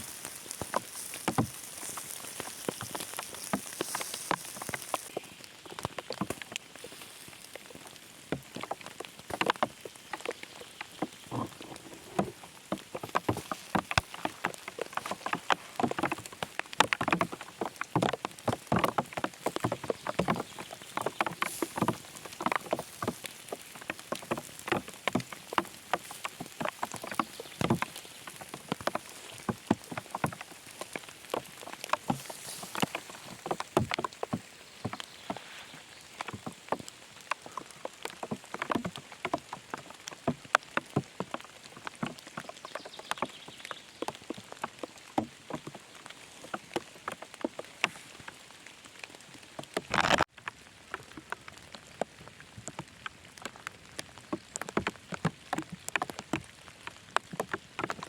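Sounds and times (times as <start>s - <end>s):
raindrops pattering: 0.0s - 58.0s.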